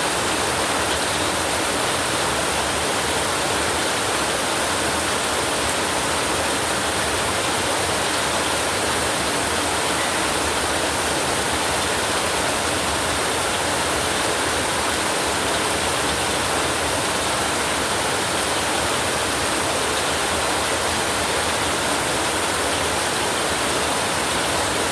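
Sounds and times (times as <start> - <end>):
heavy rain on a tin roof: 0.0 - 24.9.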